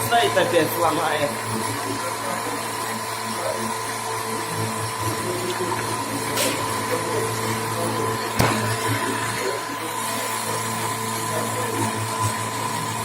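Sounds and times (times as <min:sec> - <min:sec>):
machine tool humming and whining: 0:00.0 - 0:13.0.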